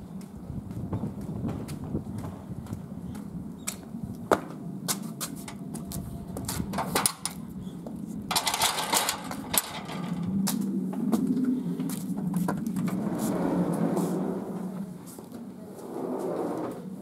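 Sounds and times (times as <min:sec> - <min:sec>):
steady low hum: 0:00.0 - 0:16.0
footsteps: 0:00.2 - 0:07.0, 0:07.8 - 0:16.4.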